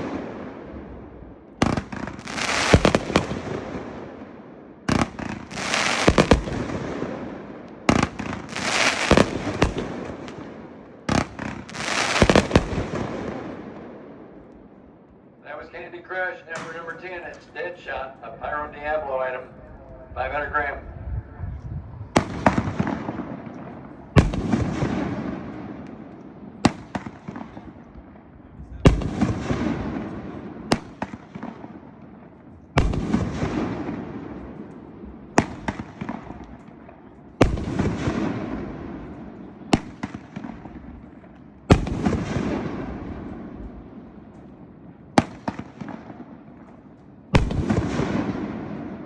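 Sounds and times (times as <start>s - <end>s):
fireworks bangs: 0.0s - 14.7s, 15.6s - 19.0s, 22.1s - 49.0s.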